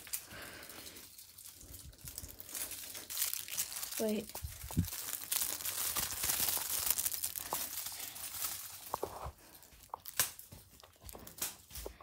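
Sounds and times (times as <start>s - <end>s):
crinkling and rustling: 0.0s - 12.0s.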